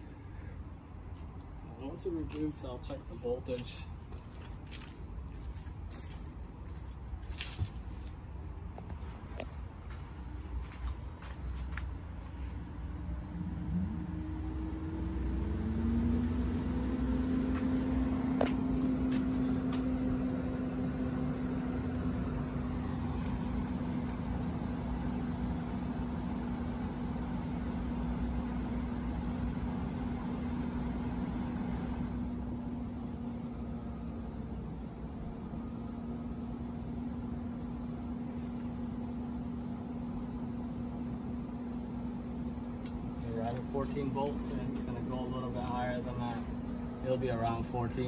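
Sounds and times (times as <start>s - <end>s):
fan humming: 5.8s - 48.0s.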